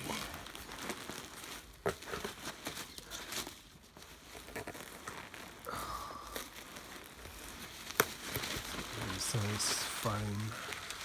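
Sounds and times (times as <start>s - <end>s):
rummaging through packing foam: 0.0s - 11.0s.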